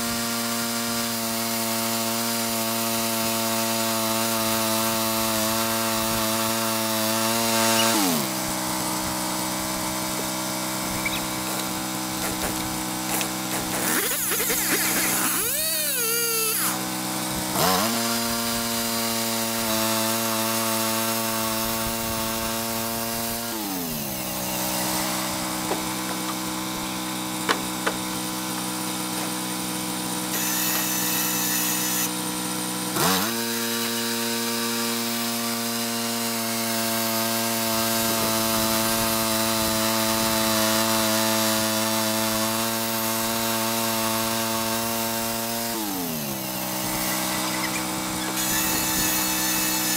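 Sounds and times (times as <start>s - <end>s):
chainsaw revving: 0.0s - 49.9s
sawmill engine throttling: 0.1s - 49.9s.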